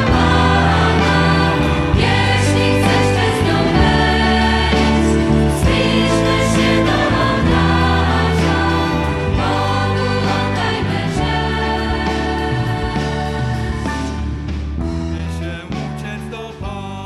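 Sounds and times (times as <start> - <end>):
church choir singing: 0.0 - 14.5.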